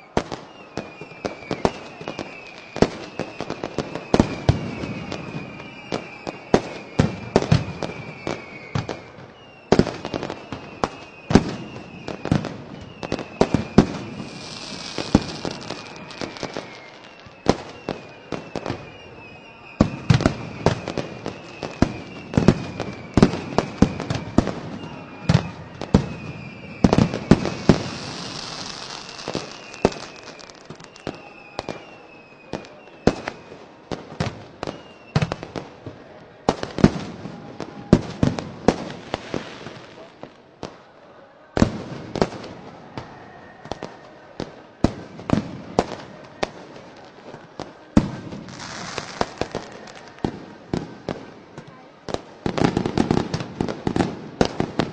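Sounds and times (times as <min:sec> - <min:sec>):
firework whistles: 0:00.0 - 0:40.4, 0:41.9 - 0:54.9
firework bangs and cracks: 0:00.0 - 0:40.8, 0:41.6 - 0:54.9.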